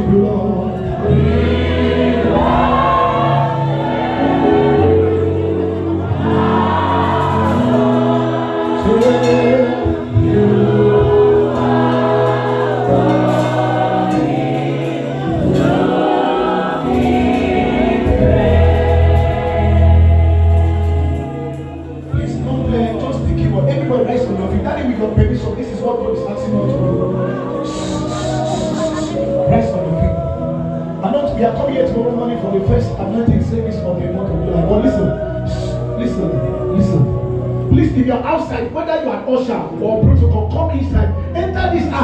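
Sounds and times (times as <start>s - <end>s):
choir and congregation singing: 0.0s - 42.0s
held instrumental chords: 0.0s - 42.0s.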